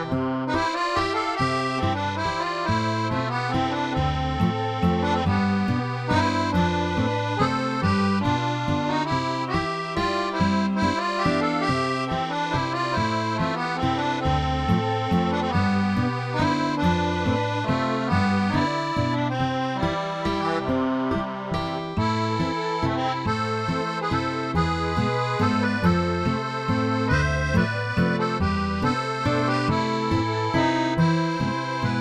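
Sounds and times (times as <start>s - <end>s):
accordion music: 0.0s - 32.0s.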